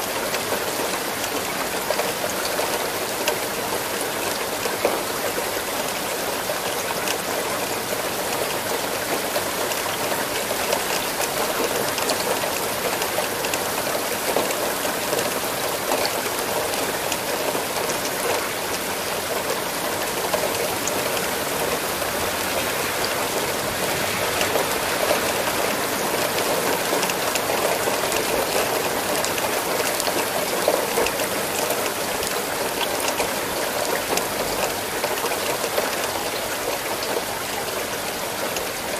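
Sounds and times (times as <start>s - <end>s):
steady rain falling: 0.0s - 38.9s
raindrops pattering on a surface: 0.1s - 38.9s.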